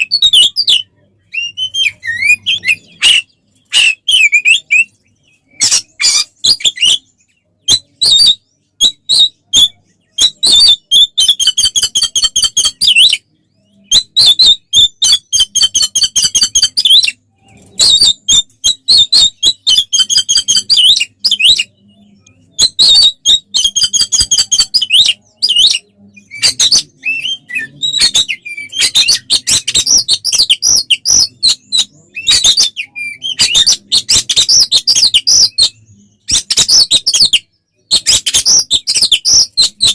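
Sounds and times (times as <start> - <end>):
sharp bird calls: 0.0 - 39.9.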